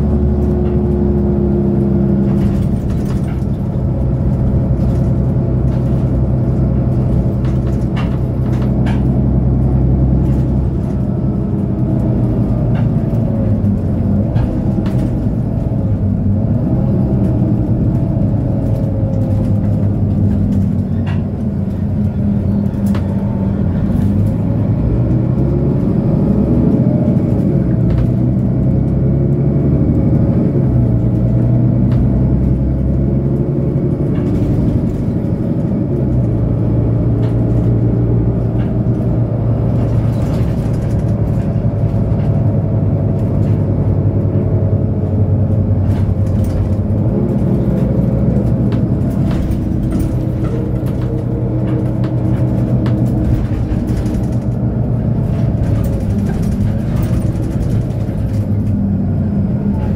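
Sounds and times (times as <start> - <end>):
bus diesel engine idling: 0.0 - 59.9.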